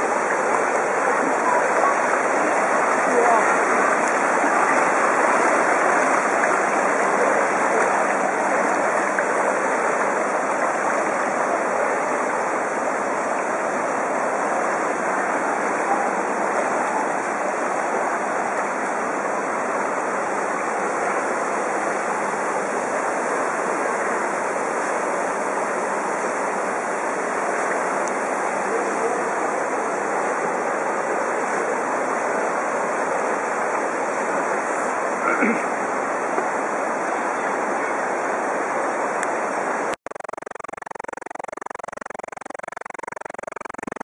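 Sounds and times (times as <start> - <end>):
floodwater rushing: 0.0 - 44.0.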